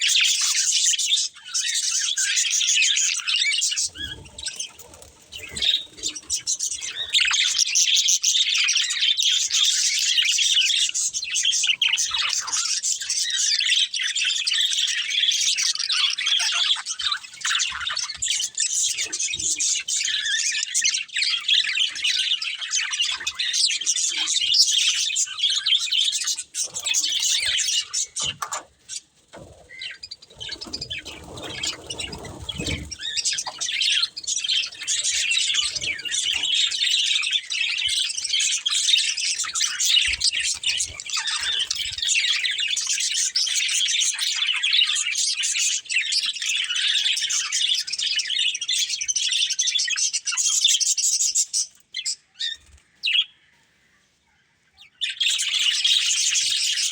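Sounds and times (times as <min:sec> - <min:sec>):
budgerigars chirping and warbling: 0:00.0 - 0:53.5, 0:54.6 - 0:56.9.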